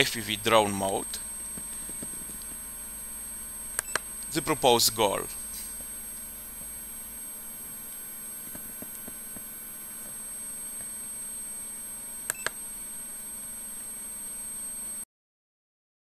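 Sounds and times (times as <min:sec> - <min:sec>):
low hum: 0:00.0 - 0:14.4
high-pitched electronic whine: 0:00.0 - 0:15.0.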